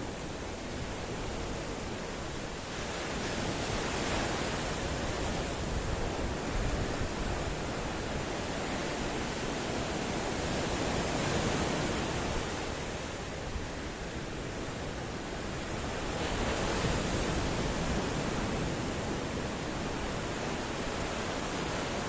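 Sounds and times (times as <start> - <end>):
ocean waves washing onto shore: 0.0 - 22.0.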